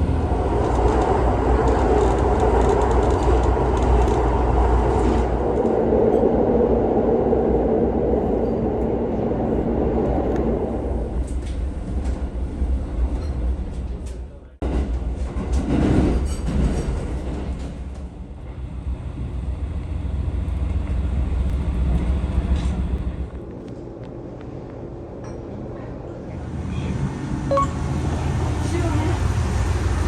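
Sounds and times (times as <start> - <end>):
diesel railcar rumbling along track: 0.0 - 30.0.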